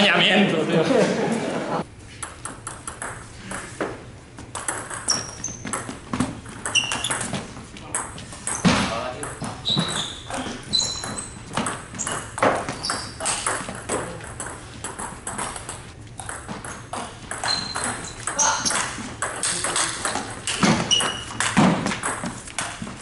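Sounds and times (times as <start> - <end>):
table tennis ball knocking: 2.2 - 10.0, 10.8 - 23.0
shoes squeaking: 3.2 - 23.0.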